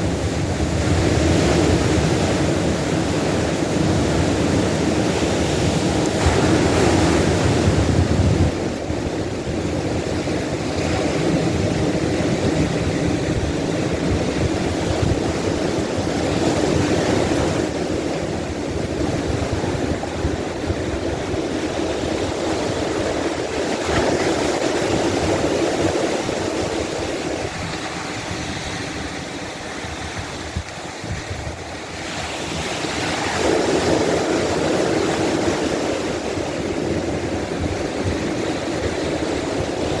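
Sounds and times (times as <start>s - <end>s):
surf breaking on beach: 0.0s - 40.0s.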